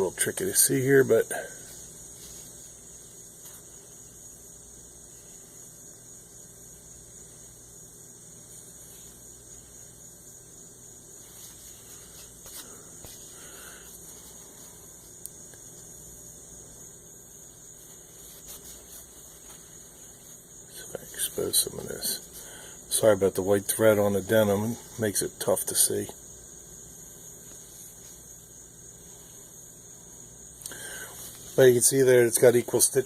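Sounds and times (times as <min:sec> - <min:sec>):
high hiss: 0:00.0 - 0:33.0.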